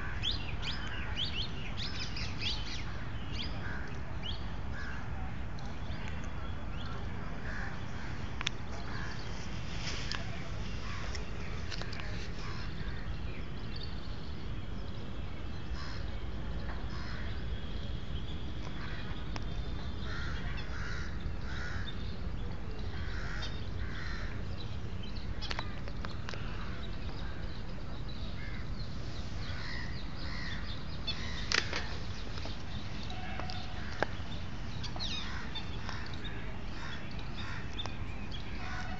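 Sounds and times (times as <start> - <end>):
birds calling: 5.9 - 38.9.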